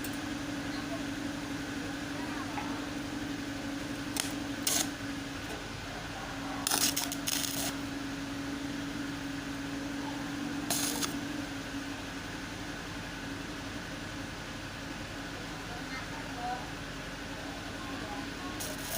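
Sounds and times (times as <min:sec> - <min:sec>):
steady hum: 0:00.0 - 0:15.7, 0:16.3 - 0:18.9.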